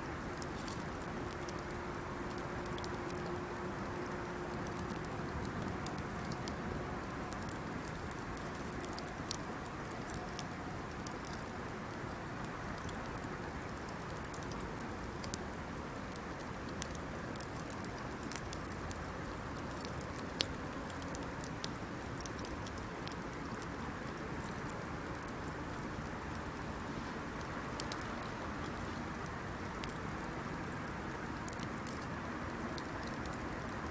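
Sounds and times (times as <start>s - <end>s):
burning wood crackling and popping: 0.0s - 33.9s.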